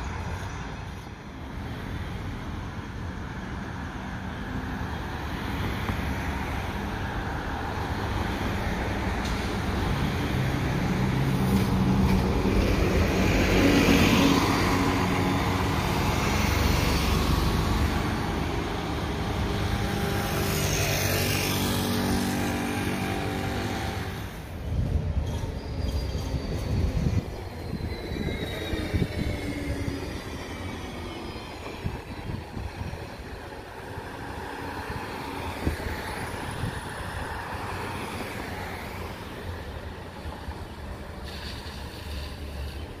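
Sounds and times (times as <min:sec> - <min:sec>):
bus passing: 0:00.0 - 0:43.0
street traffic: 0:00.0 - 0:43.0.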